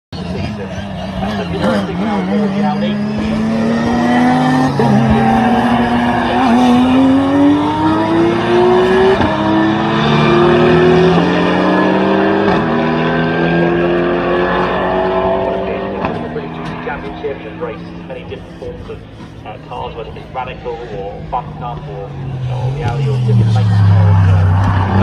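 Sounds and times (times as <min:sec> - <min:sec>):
racing car engines at full throttle: 0:00.1 - 0:25.0.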